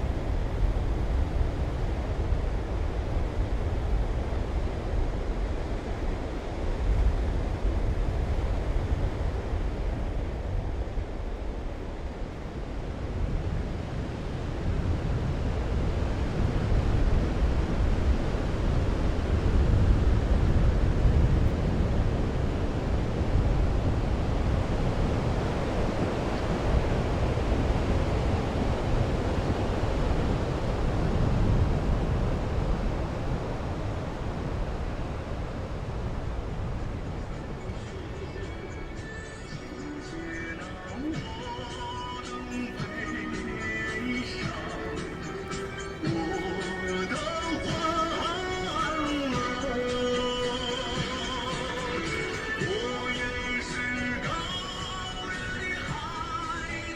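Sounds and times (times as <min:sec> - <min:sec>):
sea waves washing: 0:00.0 - 0:56.9
wind on microphone: 0:00.0 - 0:56.9.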